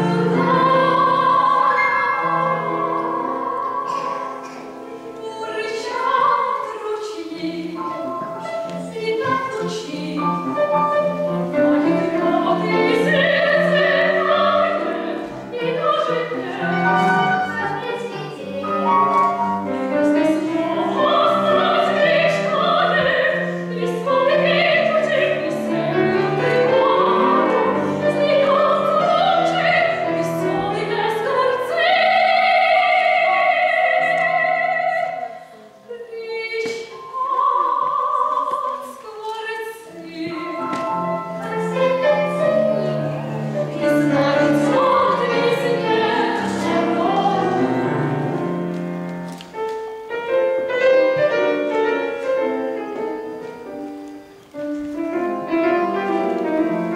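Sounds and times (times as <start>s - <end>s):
woman singing opera: 0.0s - 48.8s
grand piano: 0.0s - 56.9s.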